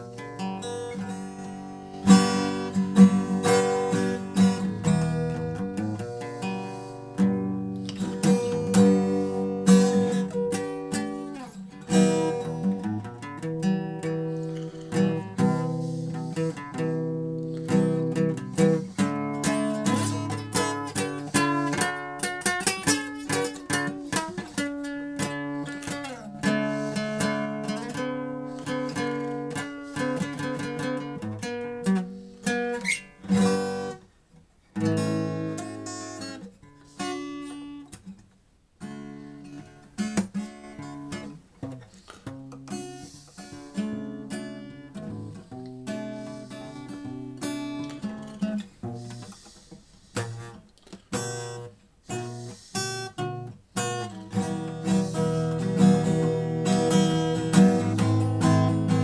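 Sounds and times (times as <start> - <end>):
acoustic guitar music: 0.0 - 59.0.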